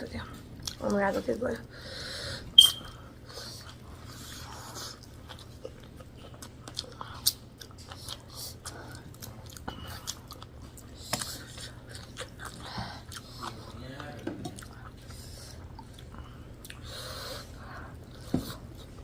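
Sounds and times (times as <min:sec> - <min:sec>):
person chewing food: 0:00.3 - 0:01.0, 0:02.6 - 0:19.0.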